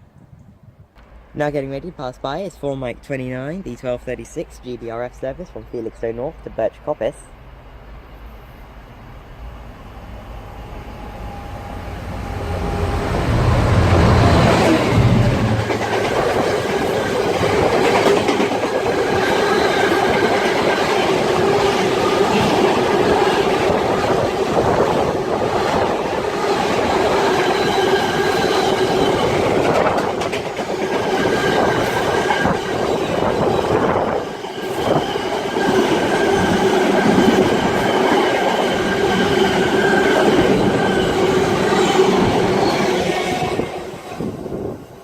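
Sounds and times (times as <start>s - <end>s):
freight train wagons rumbling: 1.0s - 44.9s.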